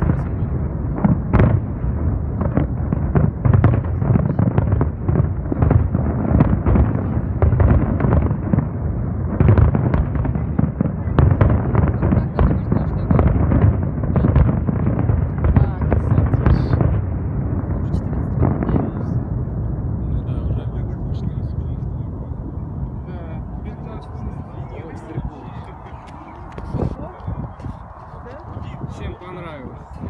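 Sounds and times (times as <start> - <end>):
fireworks bangs and cracks: 0.0 - 20.9, 21.6 - 30.0
low rumble: 0.0 - 30.0.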